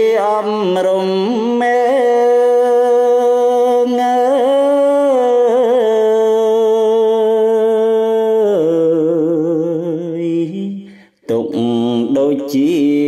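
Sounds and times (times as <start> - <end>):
man chanting verse: 0.0 - 13.0.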